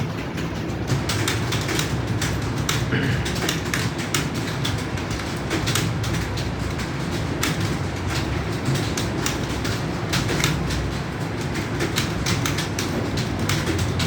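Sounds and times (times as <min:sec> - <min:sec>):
keyboards typing fast: 0:00.0 - 0:14.0.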